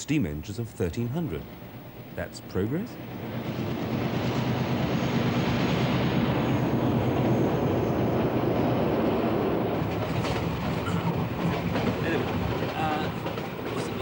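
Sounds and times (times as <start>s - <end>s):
diesel locomotive engine drone: 0.0s - 14.0s
train rumbling over bridge: 0.0s - 14.0s.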